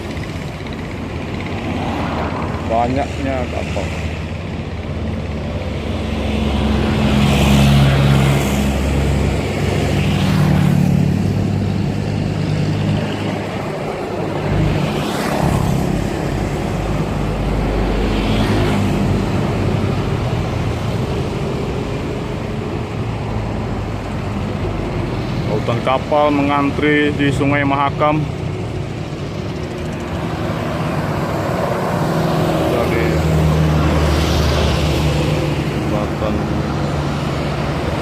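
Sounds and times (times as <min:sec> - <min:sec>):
motor engines droning: 0:00.0 - 0:38.0
rushing noise of passing vehicles: 0:00.0 - 0:38.0.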